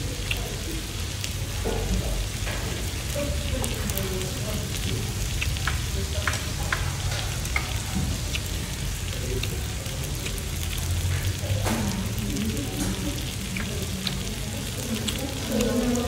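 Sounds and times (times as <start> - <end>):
meat sizzling on grill: 0.0 - 16.0.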